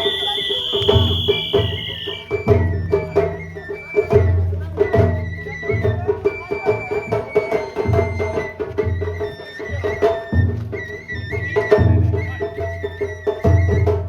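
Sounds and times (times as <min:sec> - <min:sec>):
high bamboo flute melody: 0:00.0 - 0:14.0
taiko drums beating: 0:00.0 - 0:14.0.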